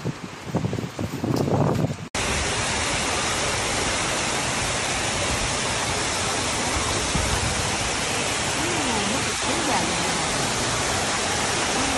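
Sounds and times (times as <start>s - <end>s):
heavy rain pouring: 2.1s - 11.9s.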